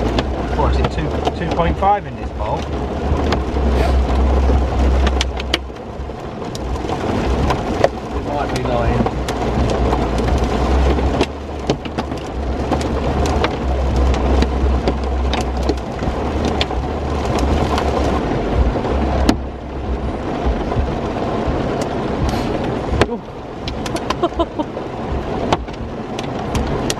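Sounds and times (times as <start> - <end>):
rain drops striking vehicle: 0.0 - 26.9
vehicle low rumble: 0.0 - 26.9.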